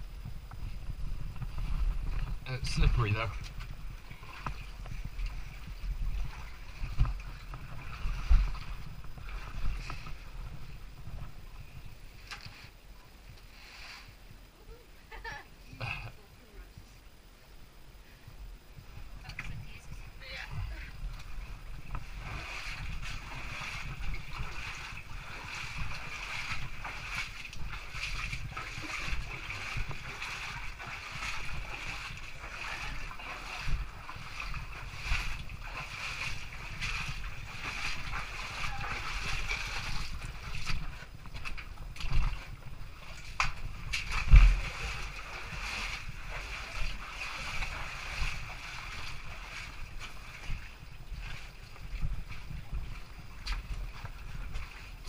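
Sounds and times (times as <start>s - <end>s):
stream water running over rocks: 0.0s - 14.6s, 18.9s - 55.0s.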